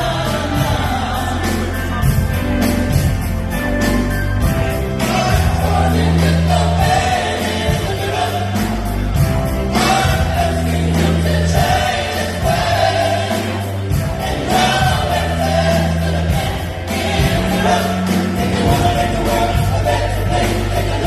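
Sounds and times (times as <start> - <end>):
band playing: 0.0 - 21.0
gospel choir singing: 0.0 - 21.0
steady bass line: 0.0 - 21.0.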